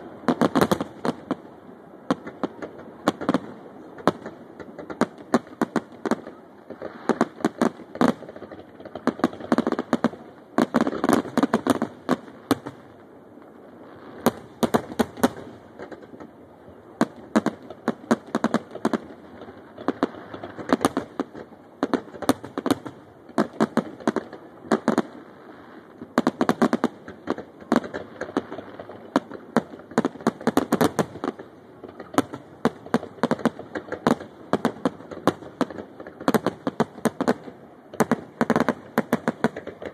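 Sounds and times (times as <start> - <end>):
fireworks bursts and bangs: 0.0 - 13.2, 13.8 - 39.9.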